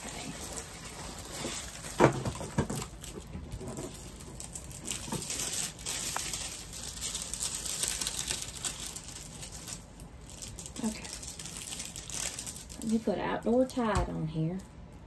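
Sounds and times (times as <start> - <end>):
canvas and plastic film crinkling: 0.0 - 14.7.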